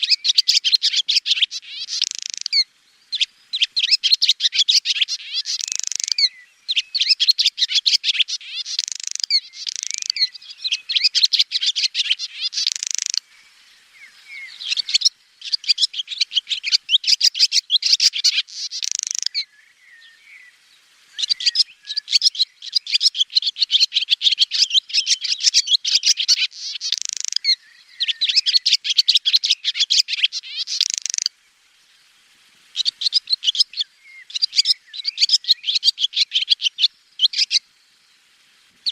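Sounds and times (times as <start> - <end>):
swallows twittering: 0.0 - 20.6, 21.2 - 31.3, 32.7 - 37.6.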